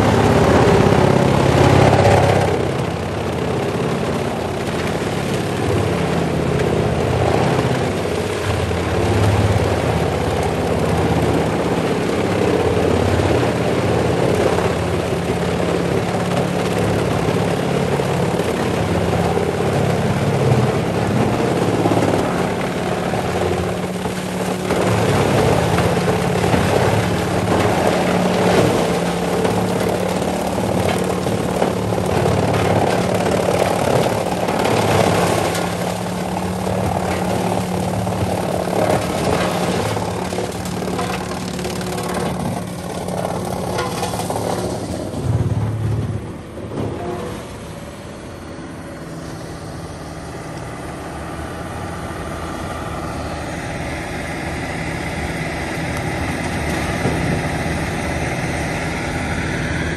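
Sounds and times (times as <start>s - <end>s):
diesel engine droning: 0.0s - 59.9s
wood grinder grinding logs: 0.0s - 59.9s.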